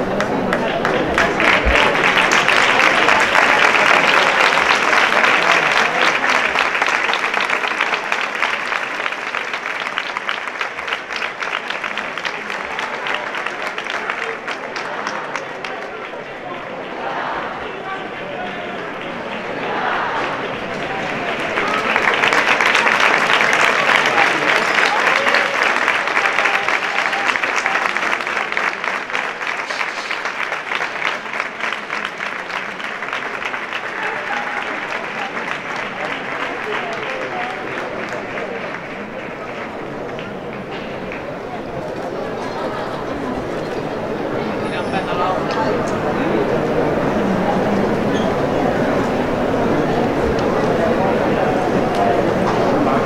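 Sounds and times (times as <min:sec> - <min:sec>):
large crowd applauding: 0:00.0 - 0:53.0.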